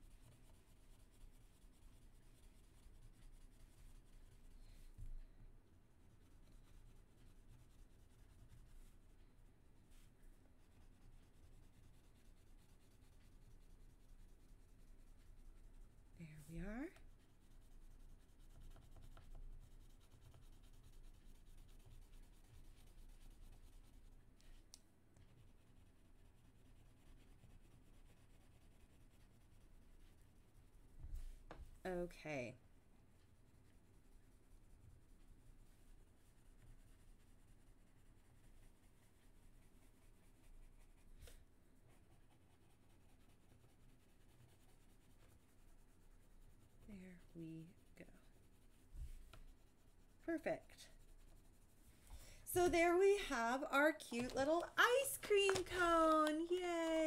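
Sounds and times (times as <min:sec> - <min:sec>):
pencil shading on paper: 0:00.0 - 0:05.0, 0:06.0 - 0:09.2, 0:09.8 - 0:30.8, 0:33.2 - 0:51.8, 0:52.6 - 0:57.0.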